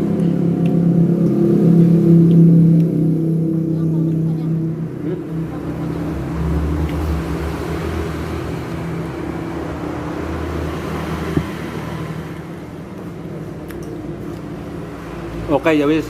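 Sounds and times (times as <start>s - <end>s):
road traffic noise: 0.0s - 16.0s
vehicle engine humming: 0.0s - 16.0s.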